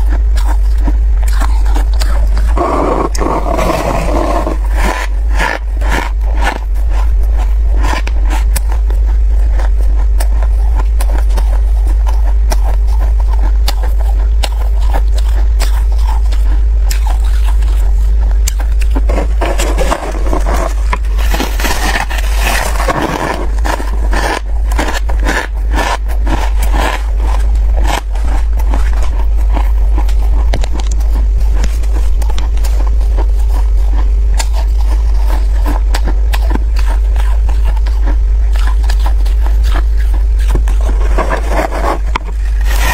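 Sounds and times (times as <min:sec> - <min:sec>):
crunching frost being chewed: 0:00.0 - 0:42.9
steady low hum: 0:00.0 - 0:42.9.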